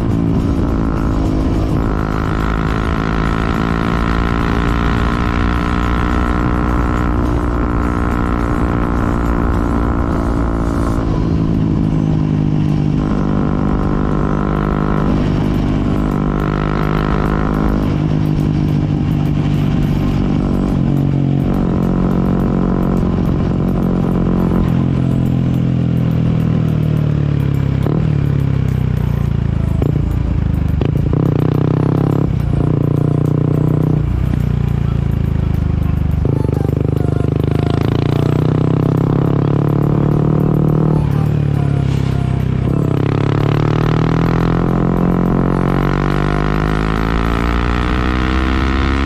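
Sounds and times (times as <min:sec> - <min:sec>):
motorcycle engine running: 0:00.0 - 0:49.0
road and wind rumble: 0:00.0 - 0:49.0.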